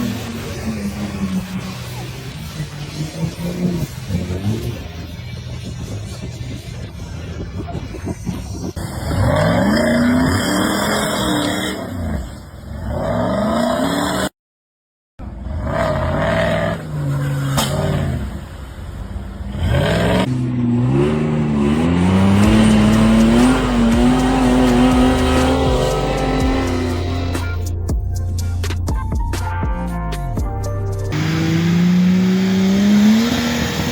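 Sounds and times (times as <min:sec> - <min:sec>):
off-road engines revving: 0:00.0 - 0:14.3, 0:15.2 - 0:27.7, 0:31.1 - 0:33.9.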